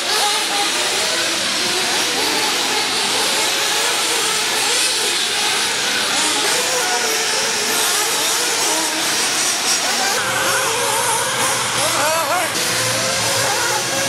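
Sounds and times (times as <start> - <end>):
rc cars motors hissing: 0.0 - 14.0.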